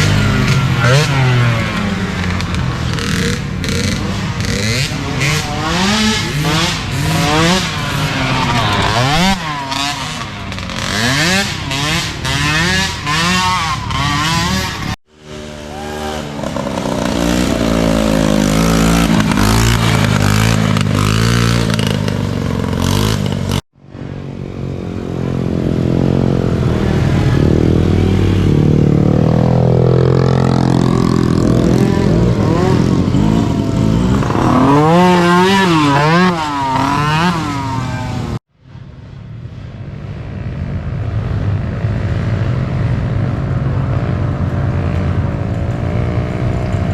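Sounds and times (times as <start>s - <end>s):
small atv engines revving: 0.0s - 38.4s.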